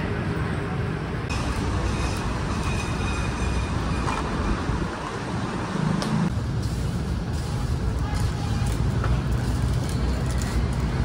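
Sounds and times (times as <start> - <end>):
busy street rumble: 0.0 - 11.0.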